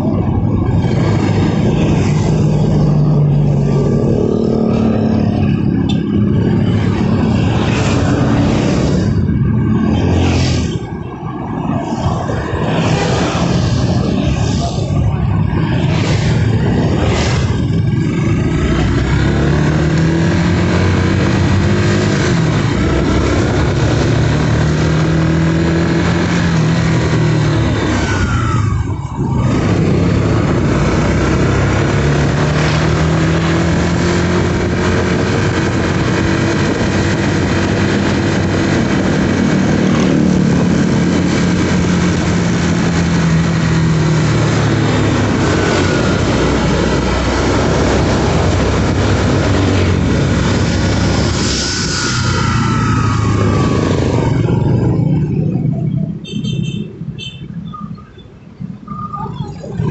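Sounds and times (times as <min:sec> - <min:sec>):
wind rushing: 0:00.0 - 0:55.8
traffic noise: 0:00.0 - 0:59.9.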